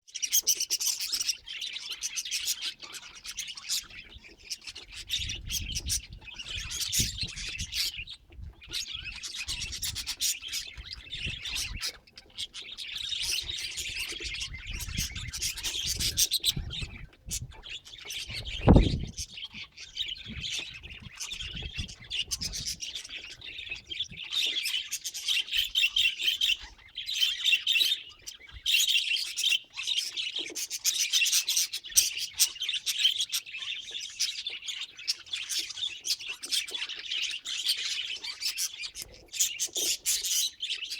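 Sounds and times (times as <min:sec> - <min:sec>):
budgerigars chattering: 0:00.1 - 0:40.9.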